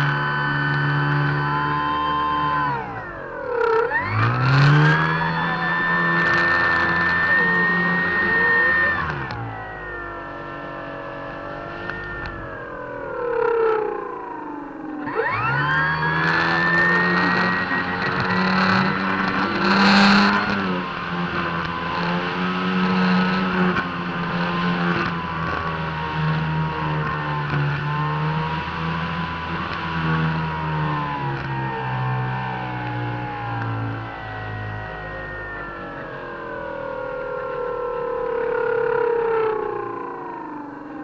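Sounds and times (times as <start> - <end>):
electric motor and propeller whine: 0.0 - 41.0.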